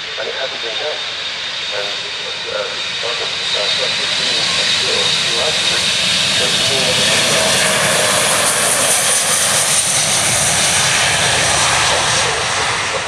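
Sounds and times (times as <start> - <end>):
jet engines roaring with whine: 0.0 - 13.0.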